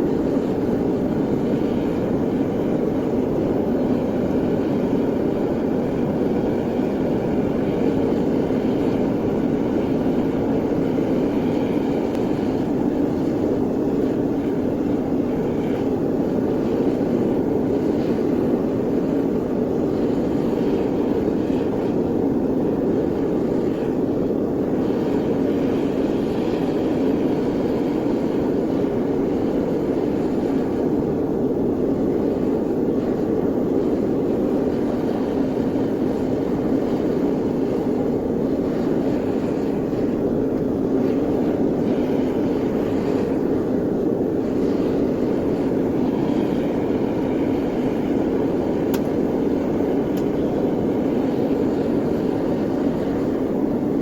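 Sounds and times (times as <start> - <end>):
furnace burner rushing: 0.0 - 54.0.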